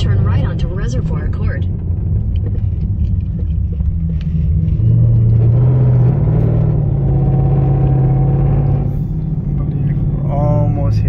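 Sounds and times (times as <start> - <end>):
car engine accelerating: 0.0 - 11.0
road noise: 0.0 - 11.0.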